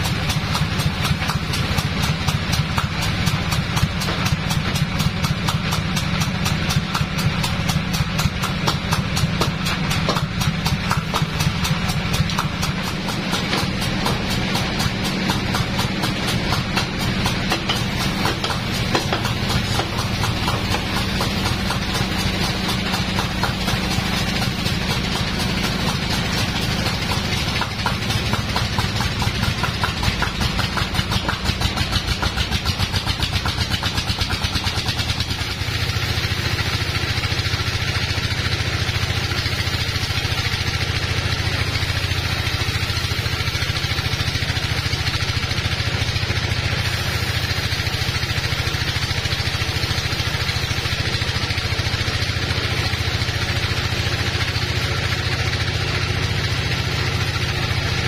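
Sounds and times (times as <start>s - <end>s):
band sawmill pulsing: 0.0s - 58.0s
steady low machine hum: 0.0s - 58.0s.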